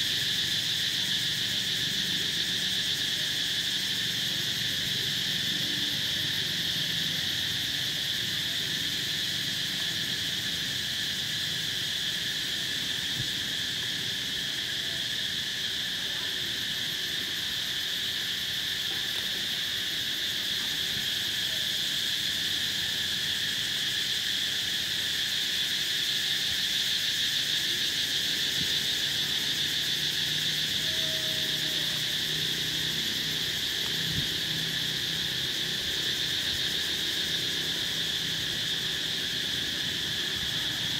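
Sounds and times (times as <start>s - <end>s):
insects calling in chorus: 0.0s - 40.9s.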